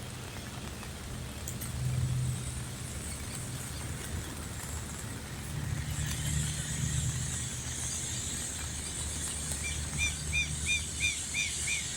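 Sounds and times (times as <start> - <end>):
steady rain hiss: 0.0 - 11.9.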